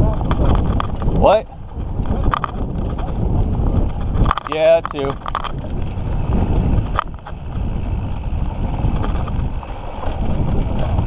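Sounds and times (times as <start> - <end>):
mountain bike rattle and tyre noise: 0.0 - 11.0
wind buffeting microphone: 0.0 - 11.0.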